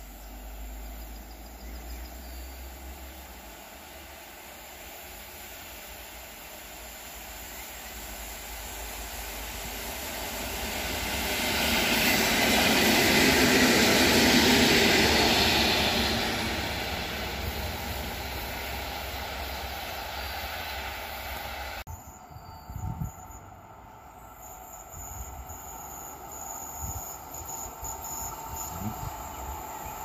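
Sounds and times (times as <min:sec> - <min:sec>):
train passing by: 0:00.0 - 0:30.0.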